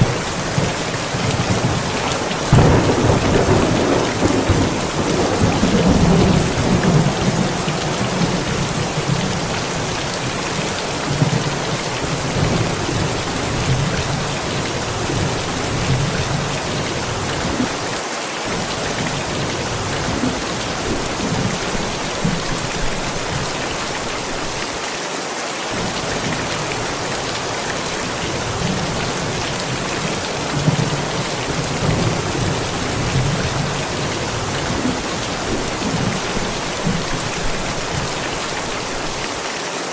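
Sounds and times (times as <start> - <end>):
low rolling thunder: 0.0 - 17.9, 18.5 - 24.6, 25.8 - 39.2
steady rain falling: 0.0 - 39.9.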